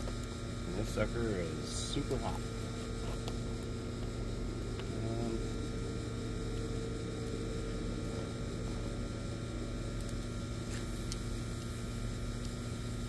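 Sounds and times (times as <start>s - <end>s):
droning hum with steady tones: 0.0s - 13.0s.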